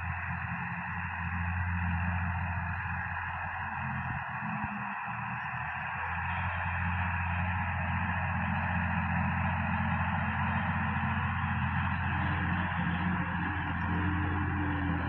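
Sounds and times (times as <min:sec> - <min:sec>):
tractor diesel engine drone: 0:00.0 - 0:15.0.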